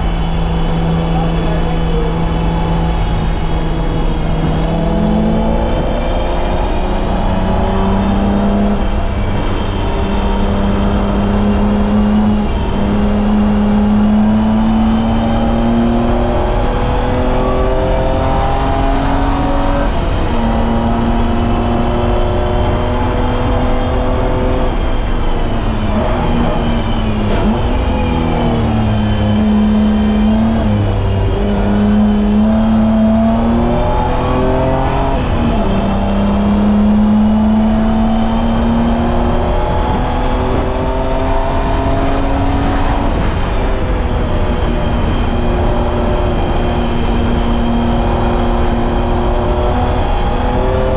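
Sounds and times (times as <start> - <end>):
car engine under hard load: 0.0 - 50.9.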